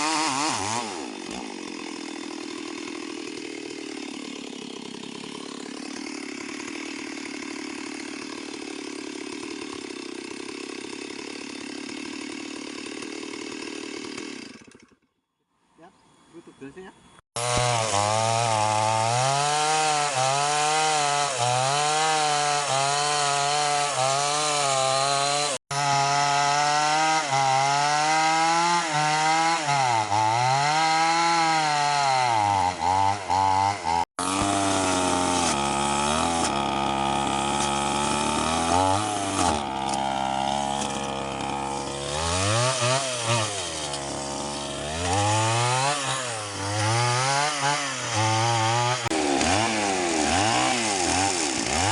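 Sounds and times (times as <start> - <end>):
chainsaw cutting wood: 0.0 - 15.1, 17.3 - 51.9.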